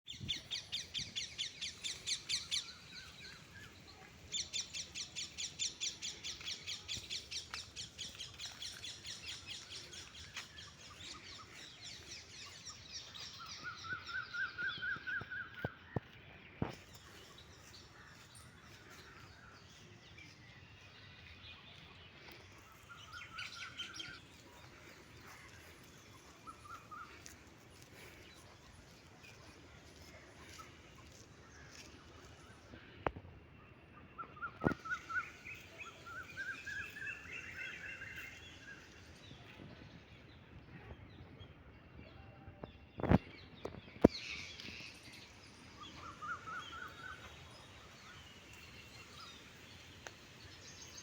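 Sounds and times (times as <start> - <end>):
birds chirping: 0.1 - 51.0.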